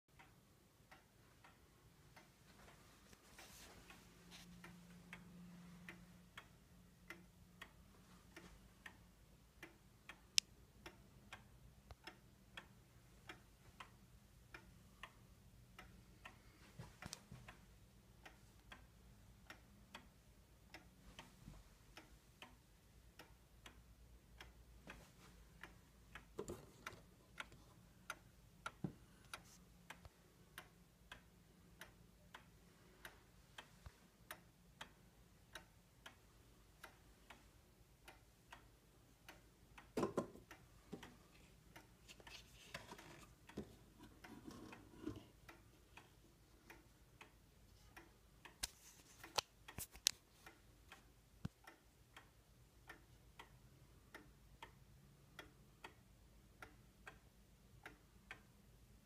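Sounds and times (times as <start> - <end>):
pendulum clock ticking: 0.1 - 59.0.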